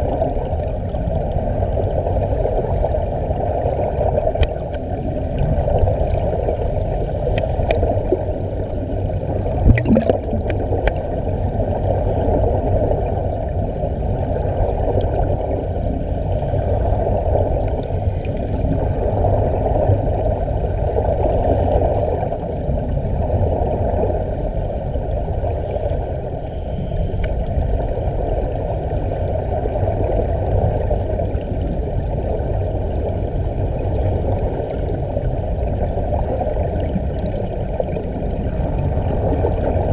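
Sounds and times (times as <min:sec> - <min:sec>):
underwater air bubbling: 0:00.0 - 0:39.9.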